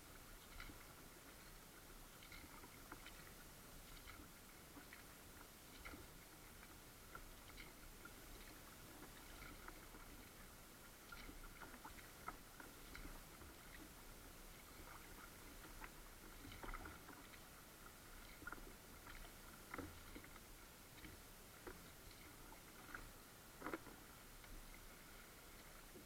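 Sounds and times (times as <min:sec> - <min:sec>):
paddle splashes and drips: 0:00.0 - 0:26.0.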